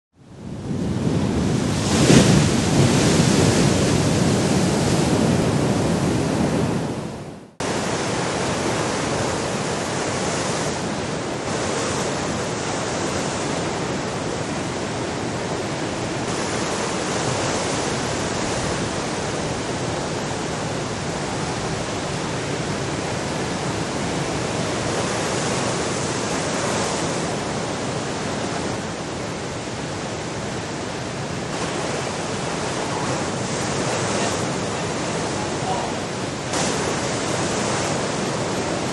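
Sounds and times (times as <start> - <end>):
ocean waves breaking: 0.3 - 38.9.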